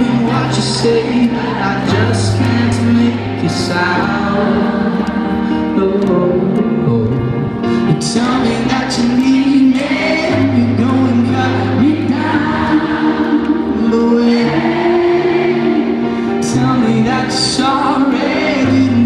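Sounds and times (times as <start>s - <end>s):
person singing: 0.0s - 19.0s
piano: 0.0s - 19.0s.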